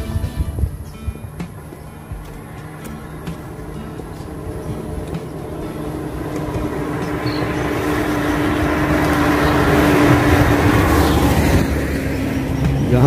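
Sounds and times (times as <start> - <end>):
car engine hum: 0.0 - 13.0
tyre noise on road: 0.0 - 13.0.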